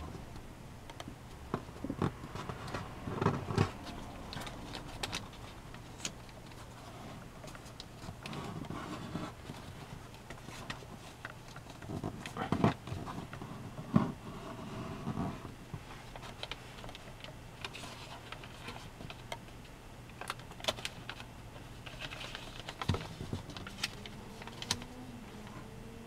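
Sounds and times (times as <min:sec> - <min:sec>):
paper rustling and crinkling: 0:01.6 - 0:14.3, 0:15.0 - 0:19.4, 0:20.2 - 0:25.6.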